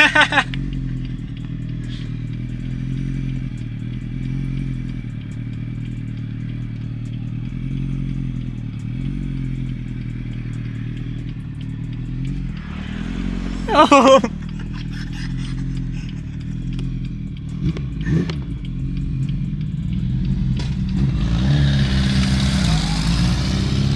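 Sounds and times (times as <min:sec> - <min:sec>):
car engine and exhaust cruising: 0:00.0 - 0:23.9.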